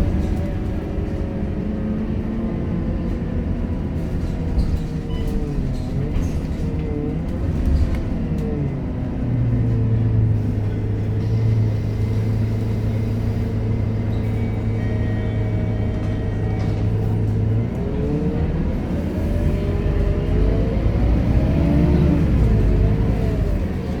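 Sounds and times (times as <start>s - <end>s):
bus drivetrain whine: 0.0s - 24.0s.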